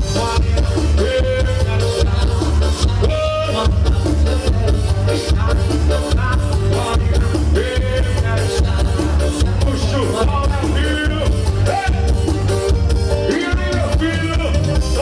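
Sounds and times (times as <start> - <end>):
loud dance music with bass beat: 0.0 - 15.0.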